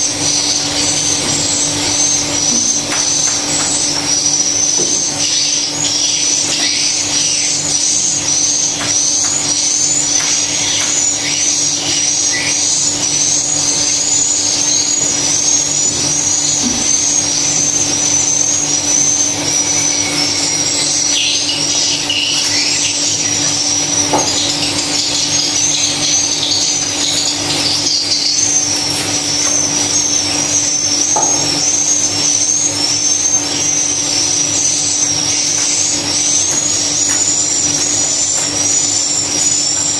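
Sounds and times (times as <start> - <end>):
twittering swiftlet calls: 0.0 - 39.9.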